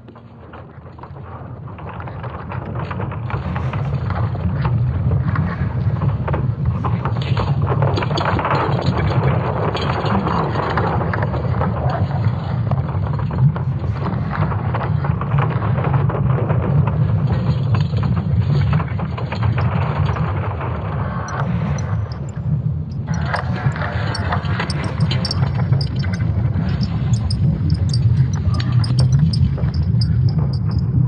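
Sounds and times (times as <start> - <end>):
crackling and creaking: 0.0 - 31.0
deep continuous rumble: 0.0 - 31.0.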